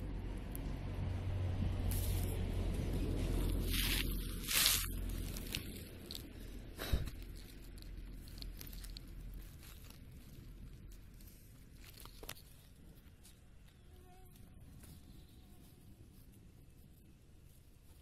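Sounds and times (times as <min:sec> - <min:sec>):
faint rustling and crackling: 0:01.8 - 0:18.0.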